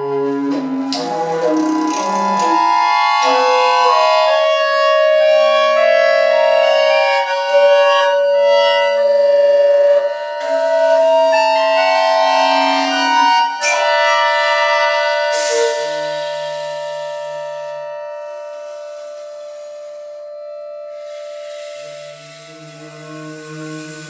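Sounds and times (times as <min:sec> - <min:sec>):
wooden recorder: 0:00.0 - 0:24.0.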